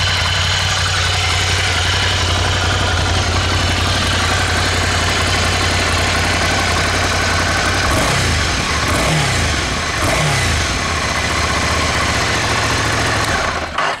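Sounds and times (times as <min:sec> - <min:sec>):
engine throttle blips: 0:00.0 - 0:14.0
motorcycle engine idling: 0:00.0 - 0:14.0.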